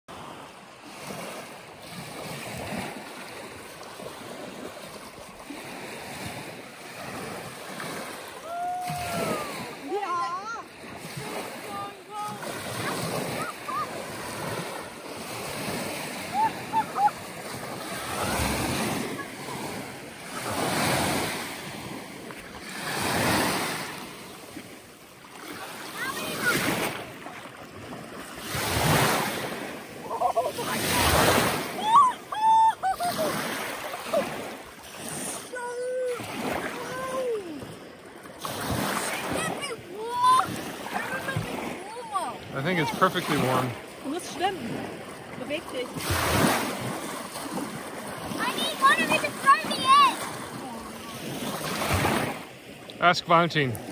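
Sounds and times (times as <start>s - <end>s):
small waves lapping on shore: 0.1s - 53.9s.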